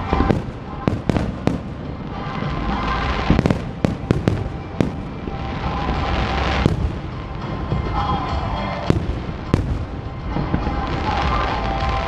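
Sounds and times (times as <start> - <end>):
fireworks bangs: 0.0 - 12.0
fireworks display noise: 0.0 - 12.0.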